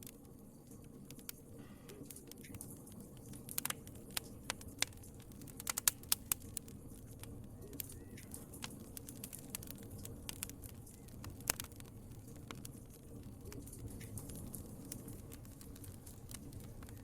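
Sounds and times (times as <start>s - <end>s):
fire crackling pops and snaps: 0.0s - 17.0s
low rumble of flames: 0.0s - 17.0s.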